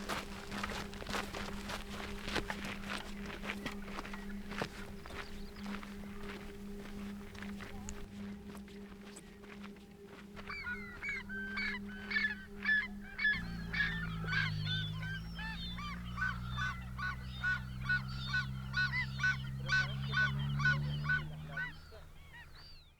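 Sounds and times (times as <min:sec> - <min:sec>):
bird calling: 0:00.0 - 0:22.9
low music drone: 0:00.0 - 0:22.9.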